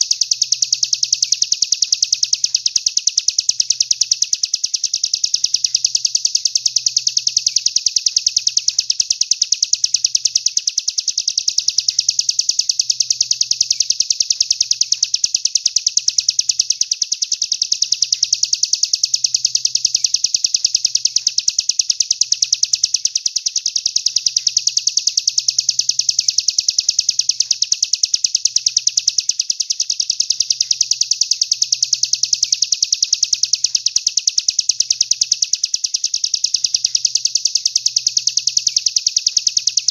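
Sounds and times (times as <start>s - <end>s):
songbird fast trill: 0.0s - 39.9s.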